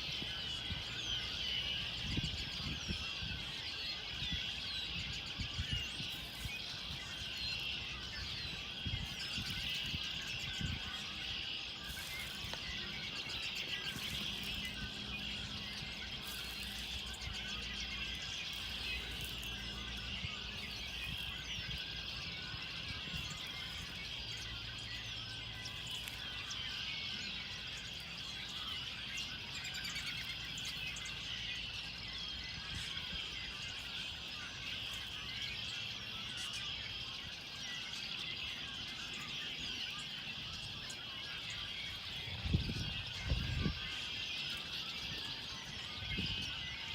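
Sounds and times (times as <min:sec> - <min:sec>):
birds chirping and singing: 0:00.0 - 0:46.9.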